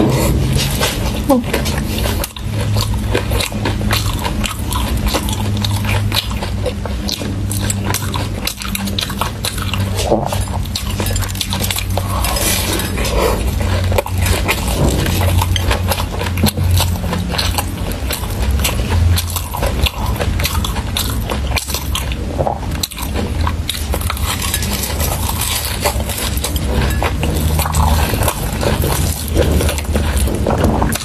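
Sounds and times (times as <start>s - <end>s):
steady low hum: 0.0s - 31.0s
wet sticky chewing: 0.0s - 31.0s.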